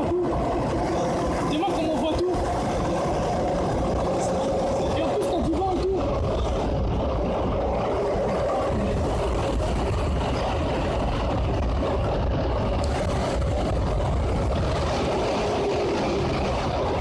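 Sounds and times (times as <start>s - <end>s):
train rumbling through tunnel: 0.0s - 17.0s.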